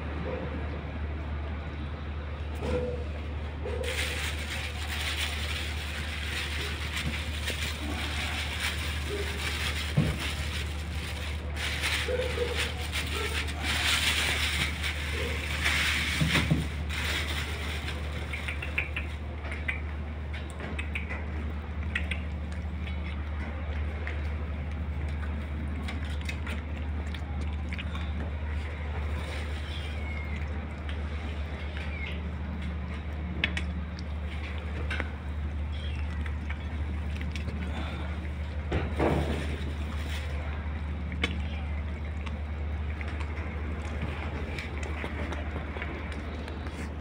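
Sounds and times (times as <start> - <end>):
puppies chewing and tearing meat: 2.4 - 47.0.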